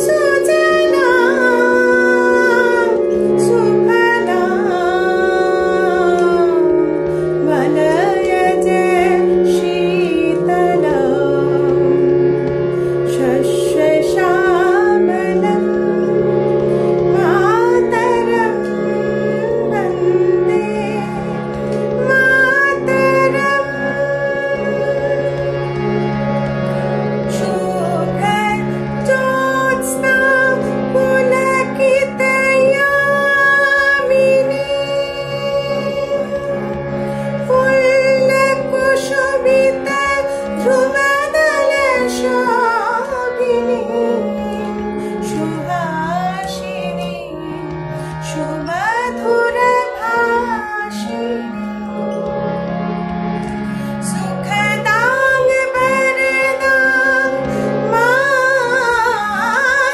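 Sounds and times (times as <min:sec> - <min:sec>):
woman singing: 0:00.0 - 0:16.4, 0:17.0 - 0:25.8, 0:27.3 - 0:52.2, 0:54.0 - 0:59.9
sustained instrumental accompaniment: 0:00.0 - 0:59.9.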